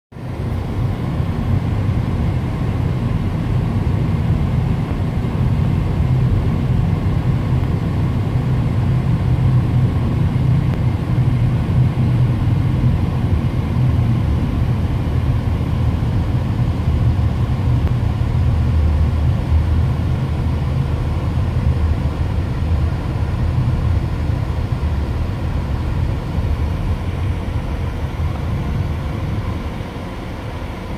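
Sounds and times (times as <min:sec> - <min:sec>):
car engine and tyre rumble: 0:00.2 - 0:30.9.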